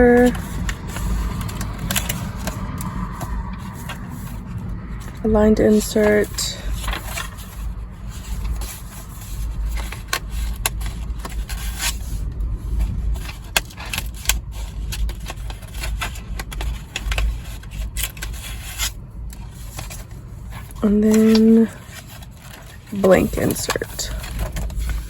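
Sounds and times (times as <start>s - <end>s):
low rumble: 0.0s - 25.0s
paper and card rubbing: 0.0s - 25.0s.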